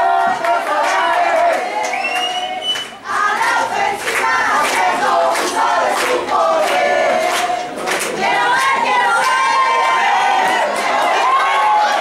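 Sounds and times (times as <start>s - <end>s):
crowd shouting and cheering: 0.0s - 12.0s.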